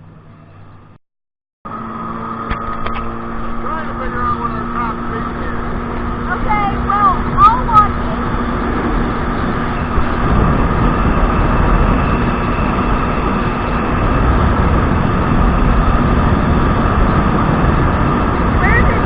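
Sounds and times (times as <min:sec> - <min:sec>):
jet ski engine running: 0:01.7 - 0:19.0.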